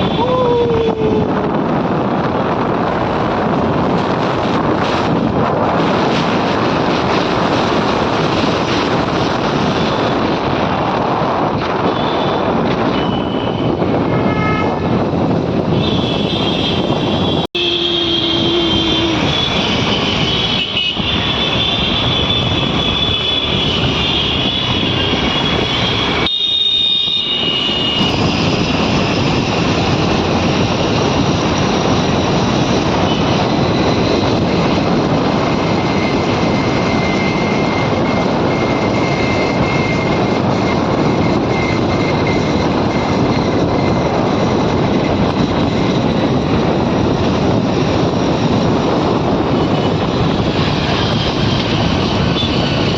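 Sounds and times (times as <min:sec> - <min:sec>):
moving vehicle noise: 0:00.0 - 0:52.9.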